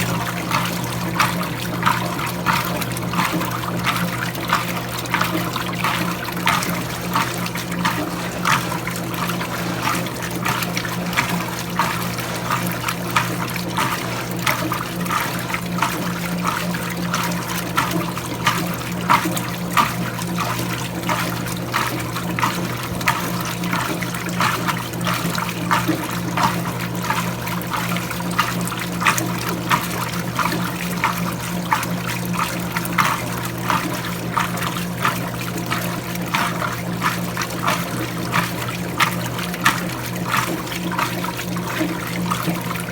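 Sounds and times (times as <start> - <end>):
washing machine motor hum: 0.0 - 42.9
water splashing and sloshing: 0.0 - 42.9.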